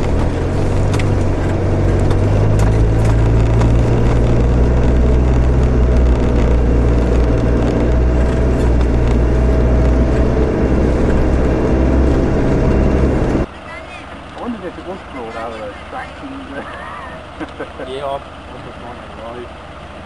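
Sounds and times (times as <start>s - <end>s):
car engine droning: 0.0s - 20.0s.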